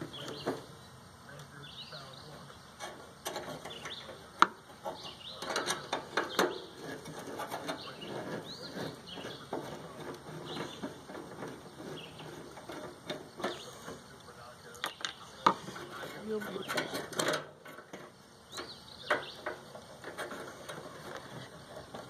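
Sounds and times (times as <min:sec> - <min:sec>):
birds chirping: 0:00.0 - 0:22.0
metal clicks and knocks: 0:02.8 - 0:14.0, 0:14.7 - 0:22.0
metal clatter: 0:02.8 - 0:14.2, 0:14.8 - 0:22.0.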